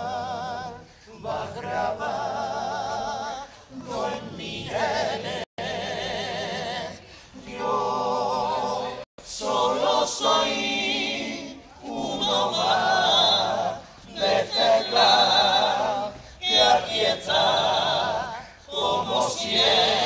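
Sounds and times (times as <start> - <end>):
men singing in chorus: 0.0 - 20.0.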